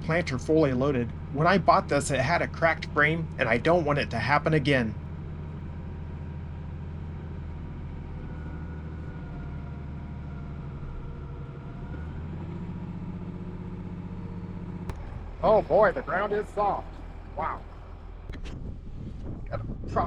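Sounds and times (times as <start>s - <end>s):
faint whine: 0.0s - 20.0s
tractor diesel engine droning: 0.0s - 20.0s.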